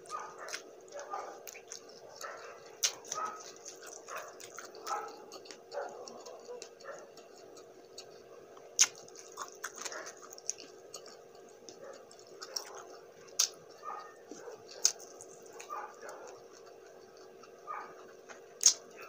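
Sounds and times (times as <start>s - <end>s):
faint steady hum: 0.0s - 19.0s
person chewing food: 0.0s - 19.0s
mouth clicks and smacks: 1.4s - 13.8s, 14.7s - 15.7s, 16.3s - 19.0s.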